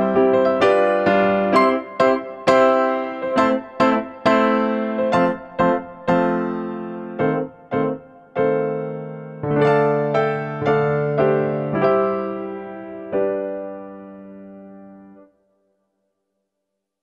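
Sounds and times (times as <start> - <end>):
slow piano melody: 0.0 - 15.6.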